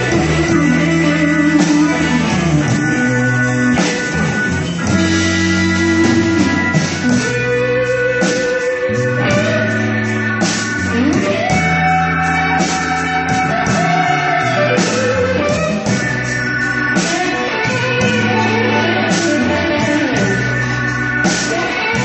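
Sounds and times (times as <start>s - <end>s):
electric guitar: 0.0s - 22.0s
live blues-rock band: 0.0s - 22.0s.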